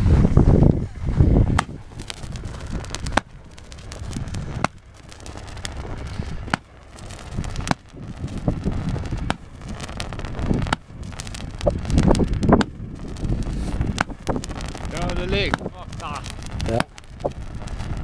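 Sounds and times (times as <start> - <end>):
fireworks popping: 0.0 - 18.0
wind rumble on microphone: 0.0 - 18.0.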